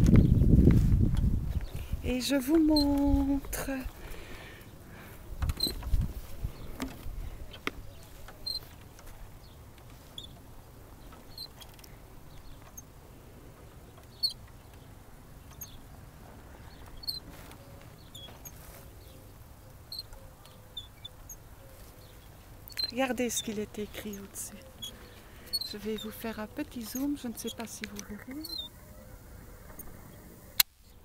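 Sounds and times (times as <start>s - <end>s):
playground swing squeaking: 0.0s - 31.0s.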